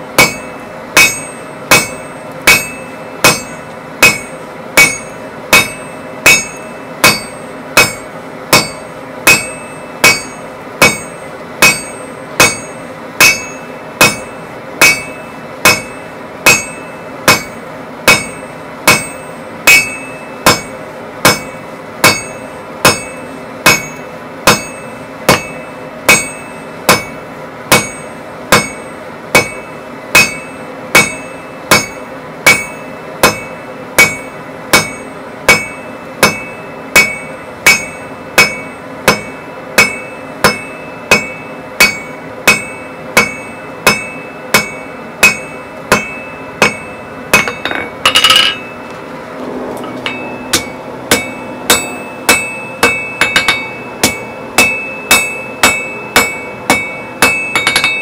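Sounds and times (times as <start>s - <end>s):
hammer striking metal on anvil: 0.0s - 48.9s, 49.8s - 58.0s
anvil ringing: 0.1s - 48.9s, 49.8s - 58.0s.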